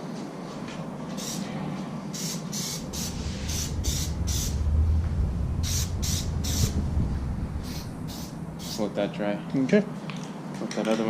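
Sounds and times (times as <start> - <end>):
low rumble: 0.9 - 10.2.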